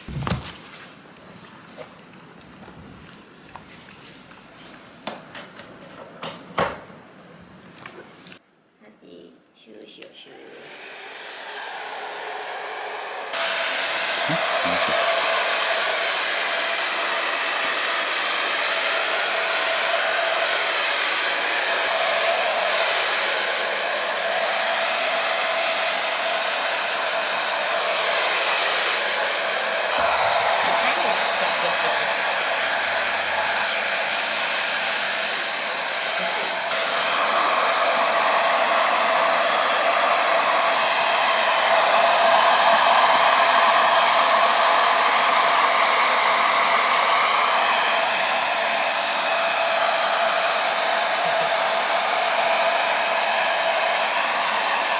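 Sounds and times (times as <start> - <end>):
hair dryer blowing: 10.2 - 54.9.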